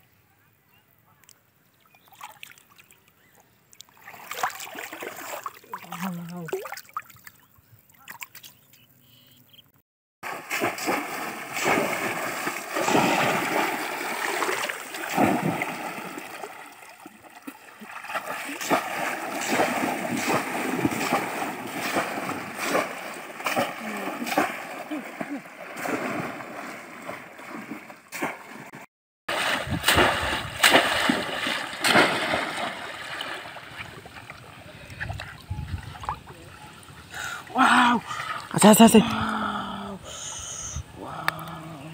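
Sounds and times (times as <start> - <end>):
water splashing and sloshing: 1.8 - 8.7, 10.2 - 39.4.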